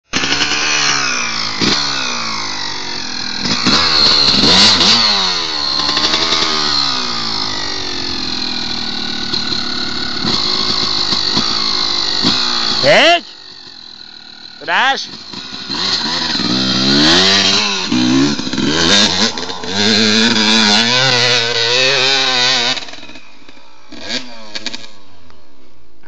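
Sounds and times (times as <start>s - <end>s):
motocross bike engine revving: 0.0s - 25.8s.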